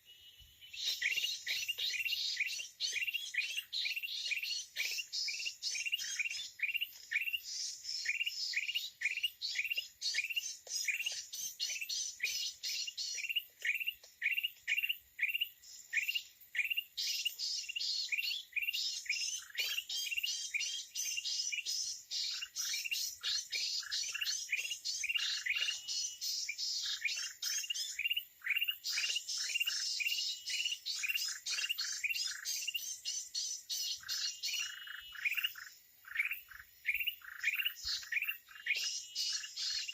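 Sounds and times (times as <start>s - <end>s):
chatter of many birds: 0.0s - 39.9s.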